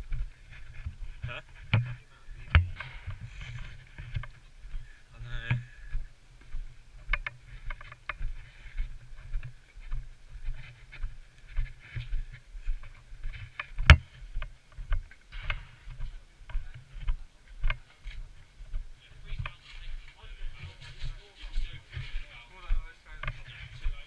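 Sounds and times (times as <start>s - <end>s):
footsteps walking: 0.0s - 24.0s.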